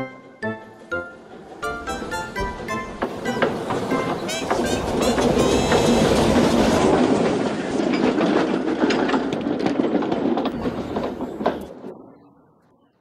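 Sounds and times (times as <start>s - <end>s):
train wheels clattering on rails: 0.6s - 12.1s.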